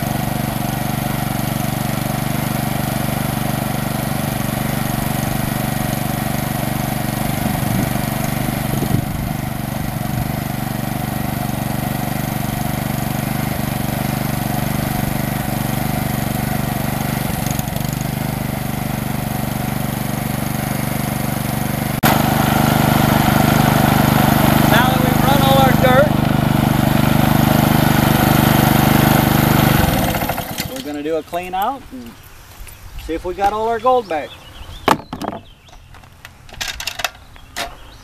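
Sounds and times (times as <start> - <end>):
small gasoline engine running: 0.0 - 31.0.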